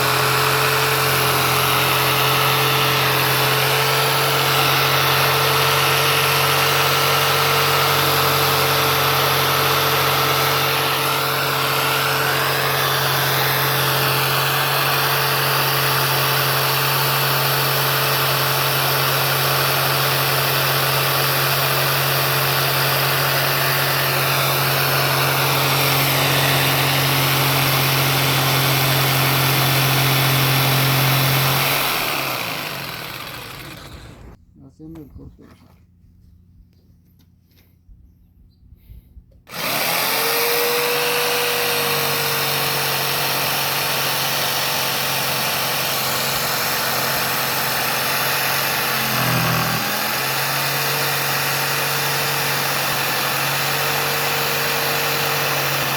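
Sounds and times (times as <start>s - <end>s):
jigsaw cutting stone countertop: 0.0s - 34.4s, 39.5s - 55.9s.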